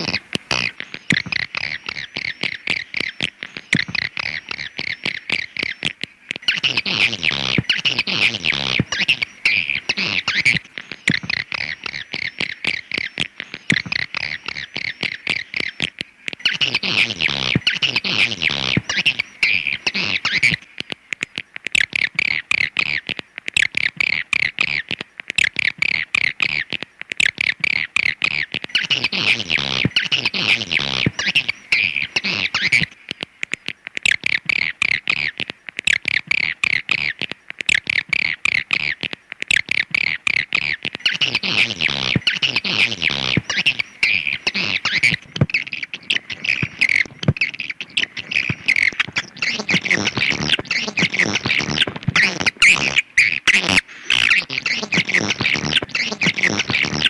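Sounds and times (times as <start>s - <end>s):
swiftlet chirping and clicking: 0.0s - 57.0s.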